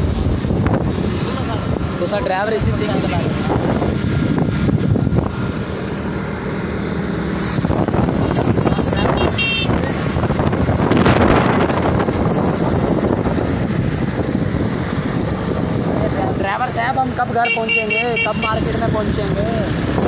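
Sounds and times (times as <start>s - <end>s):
wind buffeting microphone: 0.0s - 16.7s, 18.8s - 20.0s
motorcycle engine: 0.0s - 20.0s
road traffic: 0.0s - 20.0s.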